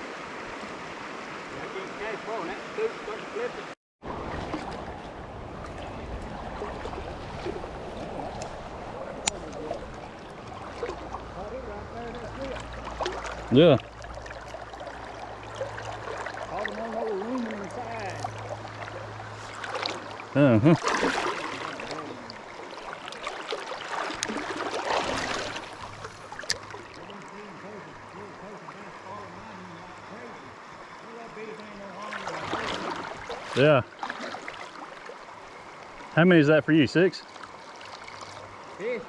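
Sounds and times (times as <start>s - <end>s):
river water flowing: 0.0s - 39.0s.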